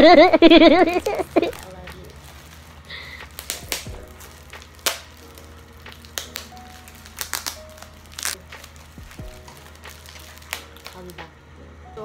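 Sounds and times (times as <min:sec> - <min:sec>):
plastic packaging crinkling: 0:00.8 - 0:11.3
sharp crackles and clicks: 0:00.9 - 0:11.3.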